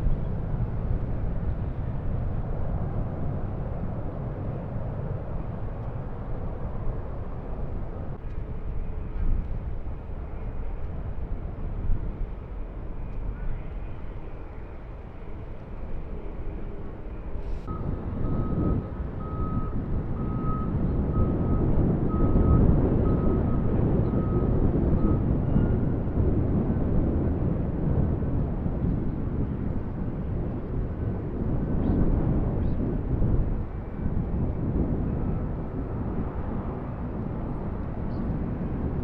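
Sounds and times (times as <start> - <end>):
jet engines rumbling: 0.0 - 39.0
wind buffeting microphone: 0.0 - 39.0.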